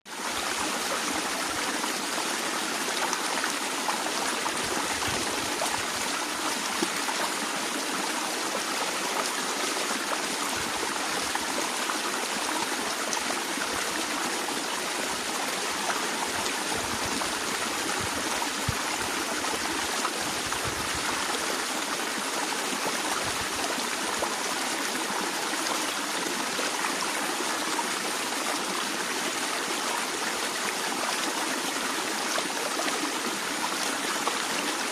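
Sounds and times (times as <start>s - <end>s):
stream of water flowing: 0.1s - 34.9s.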